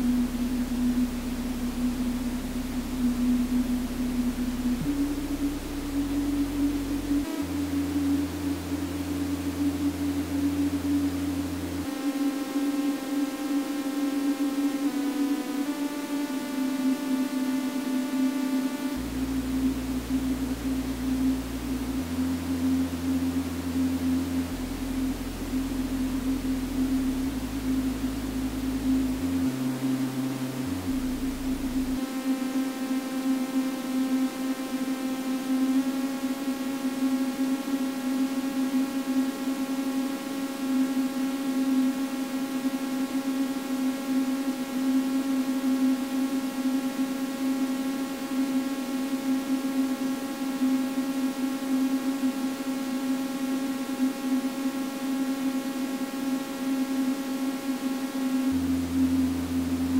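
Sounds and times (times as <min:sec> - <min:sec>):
electronic drone low hum: 0:00.0 - 0:59.9.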